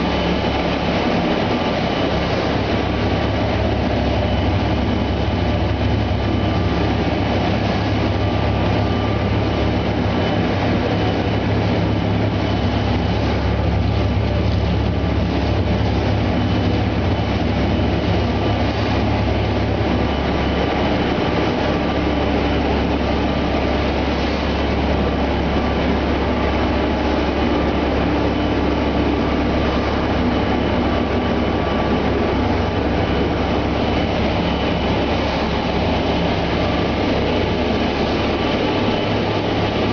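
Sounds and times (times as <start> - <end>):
production line machinery running: 0.0 - 39.9.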